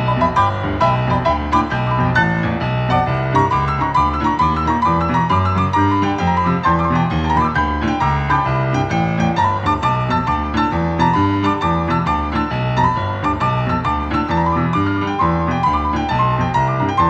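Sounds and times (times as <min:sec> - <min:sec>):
boogie-woogie piano: 0:00.0 - 0:17.0.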